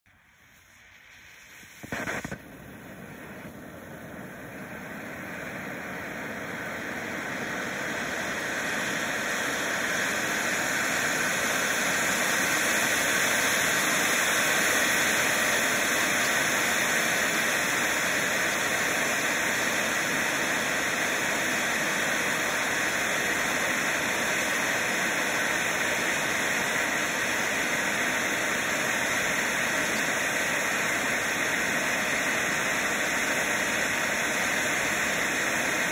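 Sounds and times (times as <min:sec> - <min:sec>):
firework fountain hissing: 0:00.1 - 0:35.9.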